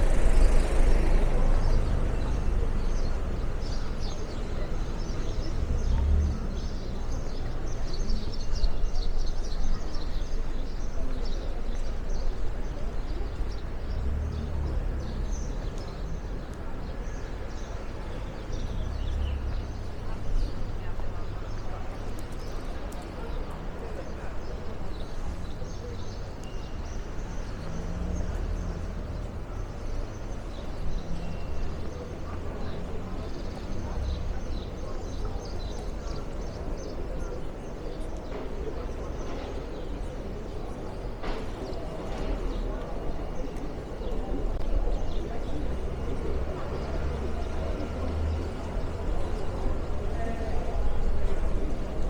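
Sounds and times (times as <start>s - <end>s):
traffic engine rumble: 0.0s - 52.0s.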